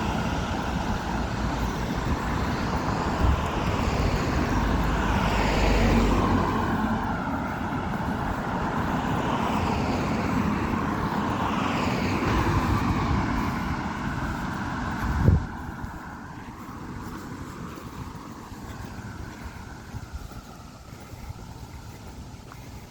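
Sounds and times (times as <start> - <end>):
vehicles passing: 0.0 - 22.9.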